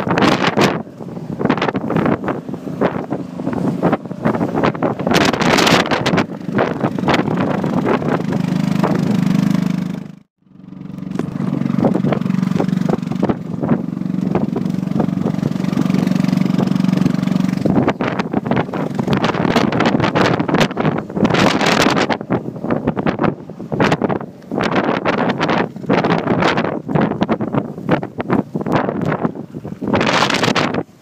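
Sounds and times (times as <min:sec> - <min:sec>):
wind buffeting microphone: 0:00.0 - 0:10.0, 0:10.8 - 0:31.0
steady engine hum: 0:00.0 - 0:31.0.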